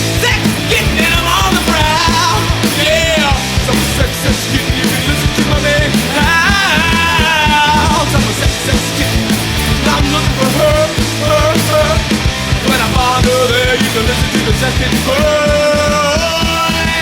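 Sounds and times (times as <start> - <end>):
punk rock band playing: 0.0 - 17.0.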